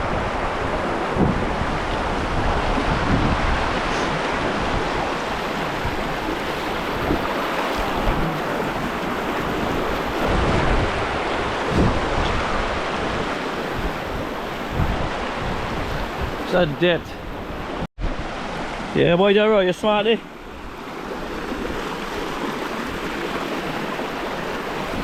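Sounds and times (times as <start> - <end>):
wind buffeting microphone: 0.0 - 18.9, 20.4 - 25.0
river water rushing: 0.0 - 25.0.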